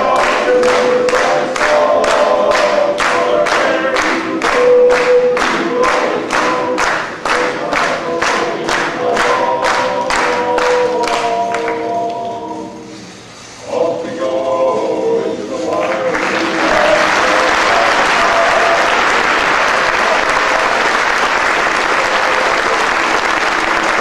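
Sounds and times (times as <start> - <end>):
audience applause: 0.0 - 11.8, 15.8 - 24.0
choir singing a held chord: 0.0 - 24.0.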